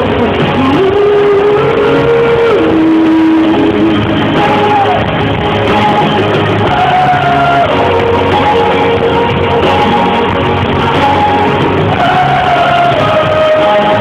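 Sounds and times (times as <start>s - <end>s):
live pop-rock band playing: 0.0s - 14.0s.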